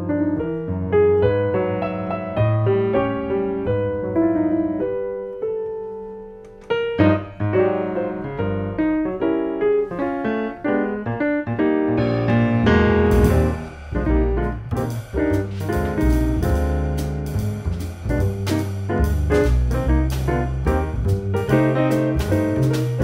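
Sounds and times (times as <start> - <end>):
grand piano jazz playing: 0.0 - 23.0.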